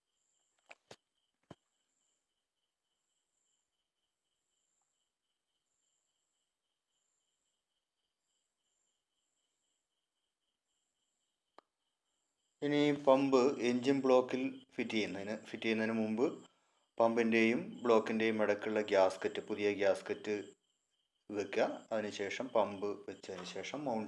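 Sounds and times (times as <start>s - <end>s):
crickets chirping: 0.4s - 10.6s, 12.6s - 24.0s.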